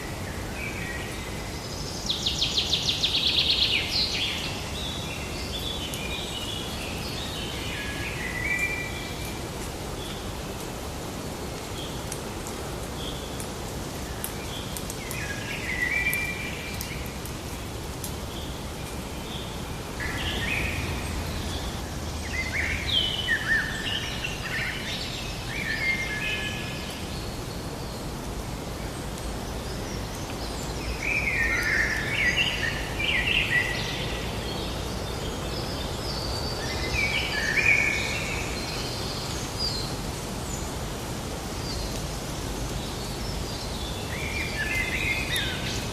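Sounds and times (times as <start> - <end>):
songbirds chirping: 0.0 - 45.9
steady background hiss: 0.0 - 45.9.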